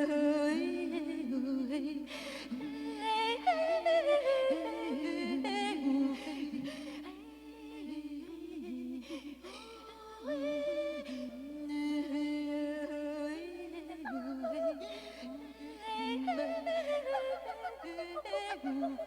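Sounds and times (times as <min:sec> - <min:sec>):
voices humming and singing: 0:00.0 - 0:19.0.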